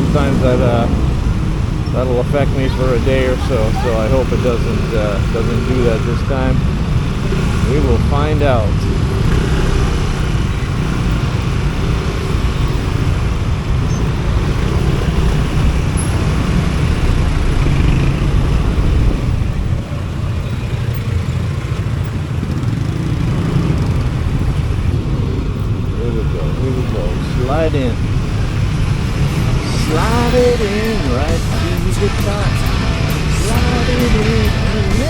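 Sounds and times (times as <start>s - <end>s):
engine and road rumble: 0.0s - 35.0s.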